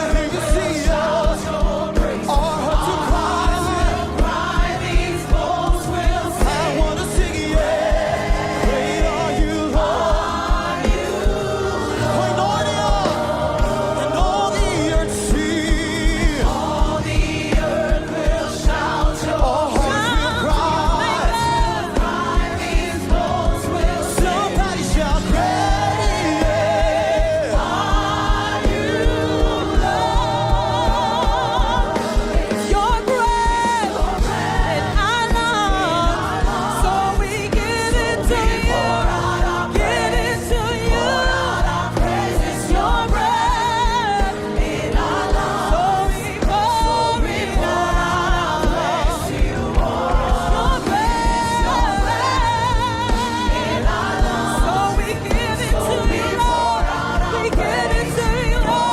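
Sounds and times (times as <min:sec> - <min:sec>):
band playing steady beat: 0:00.0 - 0:58.9
choir singing: 0:00.0 - 0:58.9.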